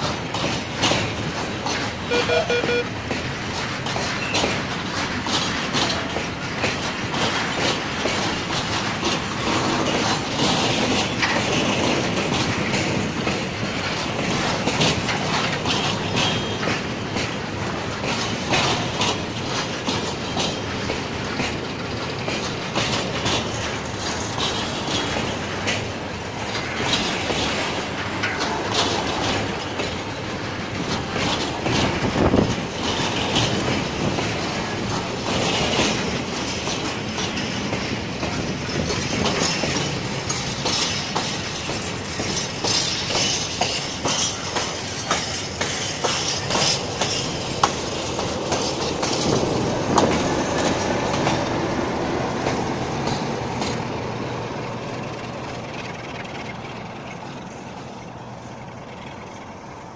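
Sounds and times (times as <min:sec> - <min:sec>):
freight train rumbling past: 0:00.0 - 0:59.9
wheels clicking over rail joints: 0:00.0 - 0:59.9.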